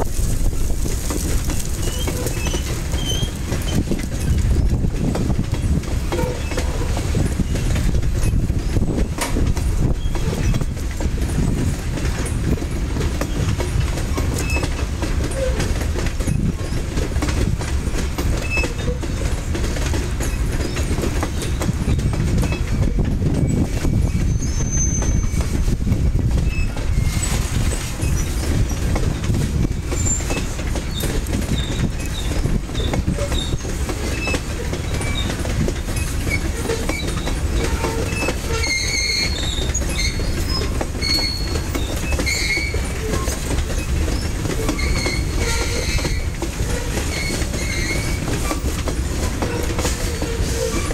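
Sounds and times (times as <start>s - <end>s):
freight train rumbling past: 0.0s - 50.9s
wheels clacking over rail joints: 0.0s - 50.9s
wheel squeals: 0.5s - 4.8s, 5.6s - 12.4s, 13.2s - 17.0s, 18.2s - 50.9s.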